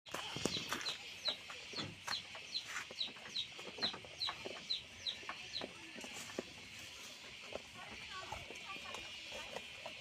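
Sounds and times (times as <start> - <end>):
chickens clucking: 0.1 - 10.0.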